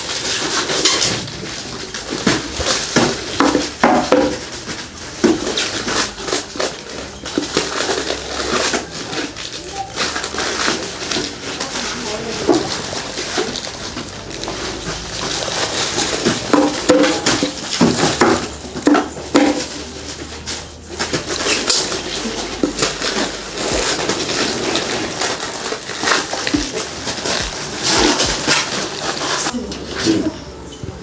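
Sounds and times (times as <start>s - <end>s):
paper packets rustling: 0.0s - 31.0s.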